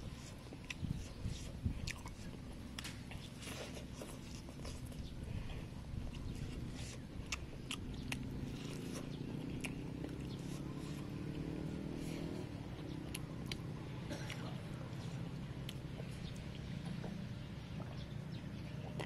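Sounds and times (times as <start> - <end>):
chewing crispy fried chicken: 0.0 - 18.0.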